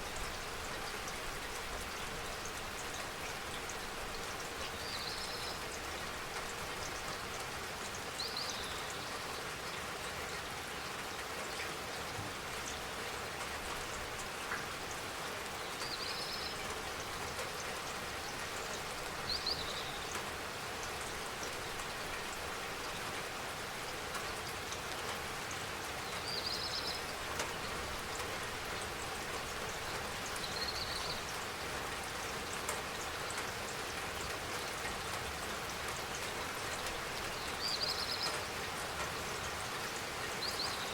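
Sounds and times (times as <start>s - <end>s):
rain falling and tapping: 0.0s - 40.9s.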